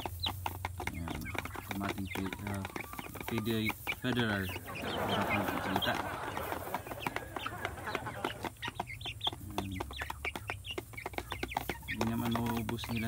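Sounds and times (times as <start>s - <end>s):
beaks pecking plastic tray: 0.0s - 13.0s
chicks clucking and peeping: 0.0s - 13.0s.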